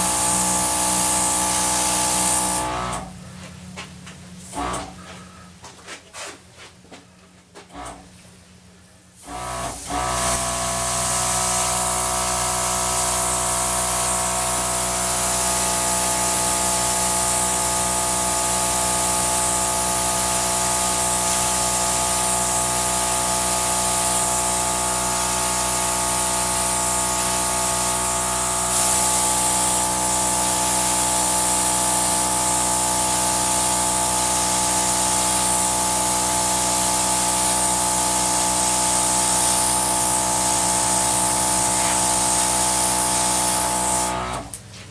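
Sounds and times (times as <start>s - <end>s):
air gun hissing: 0.0s - 3.1s, 9.2s - 44.6s.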